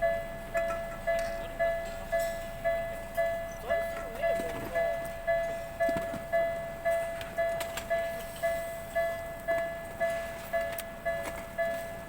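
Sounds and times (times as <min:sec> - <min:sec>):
level-crossing warning bell ringing: 0:00.0 - 0:12.0.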